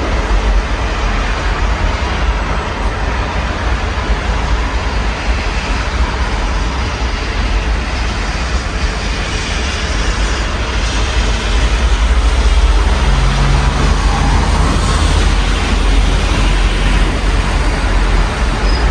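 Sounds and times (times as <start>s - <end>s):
constant low rumble: 0.0s - 18.9s
steady rain hiss: 0.0s - 18.9s.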